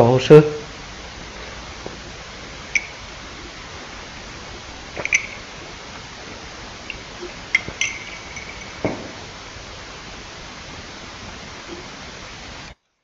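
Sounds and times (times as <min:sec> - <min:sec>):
recording hiss: 0:00.0 - 0:13.0.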